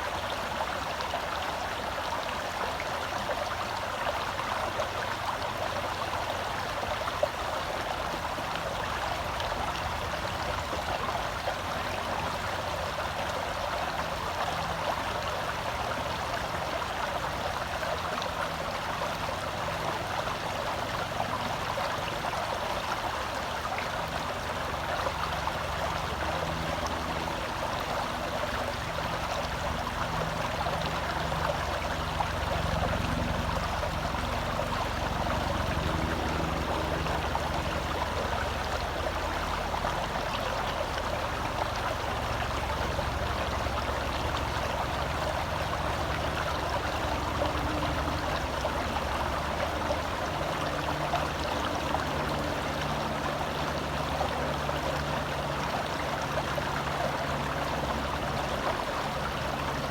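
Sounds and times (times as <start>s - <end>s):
forest stream flowing: 0.0s - 59.9s.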